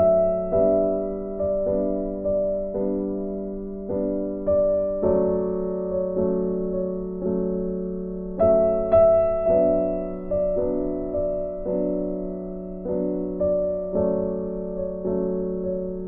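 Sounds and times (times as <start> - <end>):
soft keyboard slow chords: 0.0 - 16.0.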